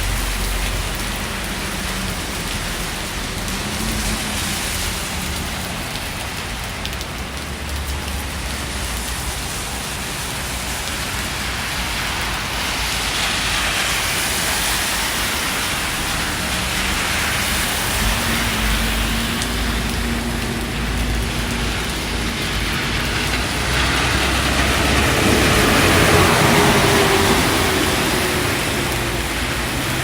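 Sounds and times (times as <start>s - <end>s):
rain on wet street: 0.0s - 30.0s.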